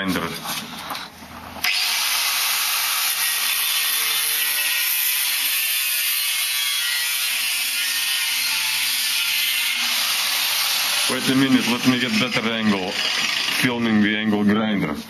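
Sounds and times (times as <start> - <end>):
angle grinder cutting metal: 1.6 - 13.8.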